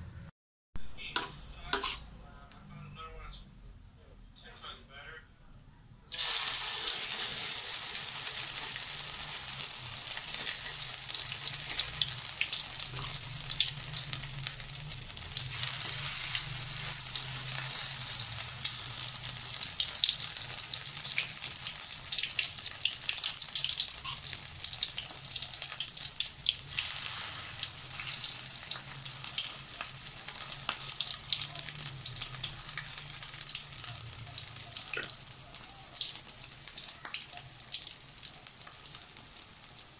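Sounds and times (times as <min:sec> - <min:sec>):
batter frying in hot oil: 0:06.1 - 0:39.9.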